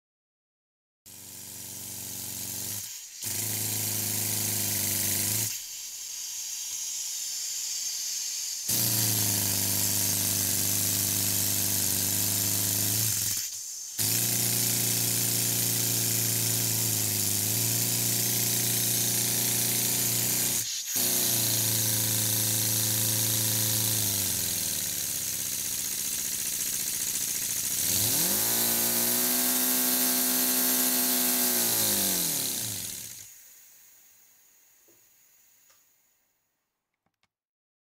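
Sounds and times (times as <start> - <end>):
miniature steam engine buzzing: 1.1 - 36.0
steam hiss: 2.6 - 36.3.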